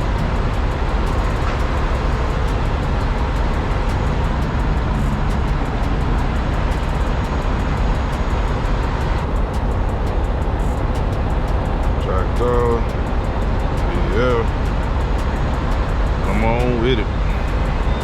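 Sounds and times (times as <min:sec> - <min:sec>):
low vehicle rumble: 0:00.0 - 0:18.0.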